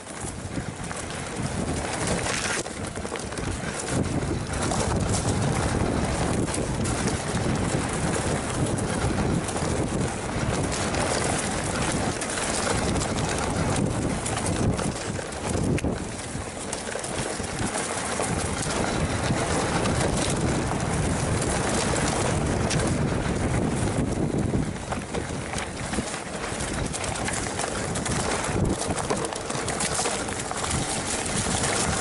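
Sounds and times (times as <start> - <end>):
bike rattling over bumps: 0.0 - 32.0
tyres on dirt: 0.0 - 32.0
wind buffeting microphone: 0.0 - 32.0.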